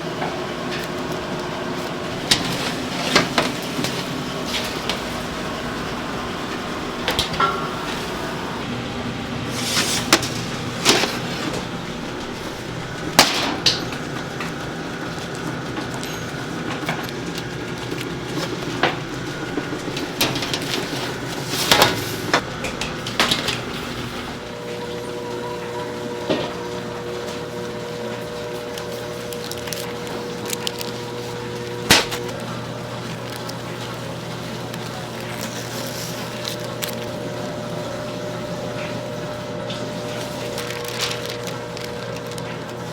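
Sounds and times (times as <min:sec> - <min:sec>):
steady machine hum: 0:00.0 - 0:42.9
utensils and trays clinking: 0:00.1 - 0:42.9.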